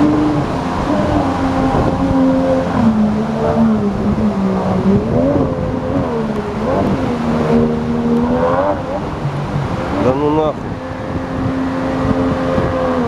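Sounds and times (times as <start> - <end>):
outboard motor revving: 0.0 - 13.0
rushing rapids: 0.0 - 13.0.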